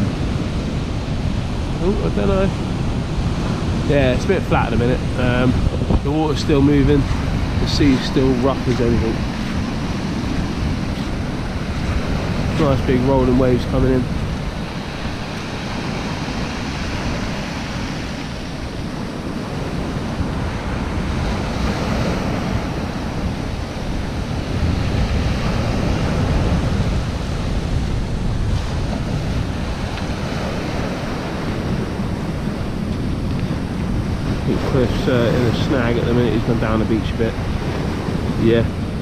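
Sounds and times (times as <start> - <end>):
waves breaking on beach: 0.0 - 39.0
wind buffeting microphone: 0.0 - 39.0.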